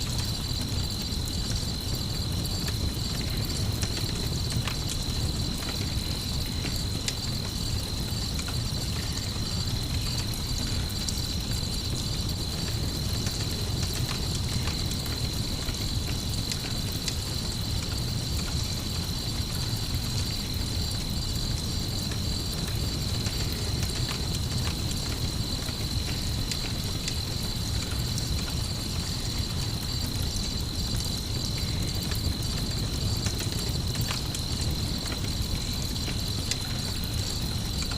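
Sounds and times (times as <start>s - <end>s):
campfire crackling: 0.0s - 37.9s
crickets trilling: 0.0s - 37.9s.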